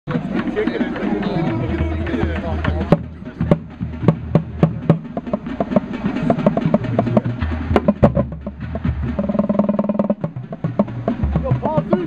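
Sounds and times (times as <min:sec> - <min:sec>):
marching bass drums: 0:00.1 - 0:12.0.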